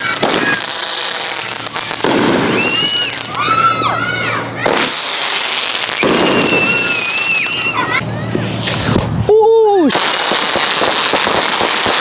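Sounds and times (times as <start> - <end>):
firework whistles: 0.0 - 12.0
fireworks hissing crackling bursts: 0.0 - 12.0.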